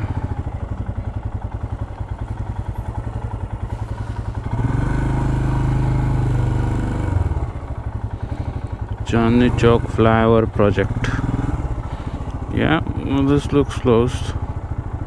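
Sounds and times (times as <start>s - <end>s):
motorcycle engine idling: 0.0s - 15.0s
steady engine hum: 0.0s - 15.0s.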